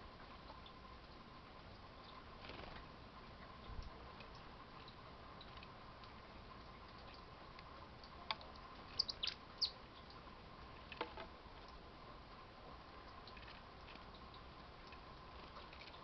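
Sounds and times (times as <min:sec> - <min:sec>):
faint steady hum: 0:00.0 - 0:16.0
small birds chirping: 0:00.6 - 0:11.0, 0:13.1 - 0:16.0.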